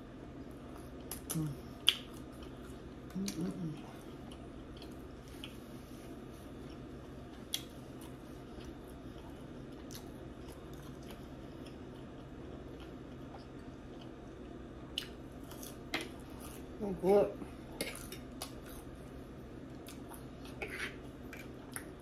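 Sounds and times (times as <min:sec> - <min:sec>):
low steady hum: 0:00.0 - 0:22.0
person chewing food: 0:00.4 - 0:16.8, 0:17.6 - 0:22.0.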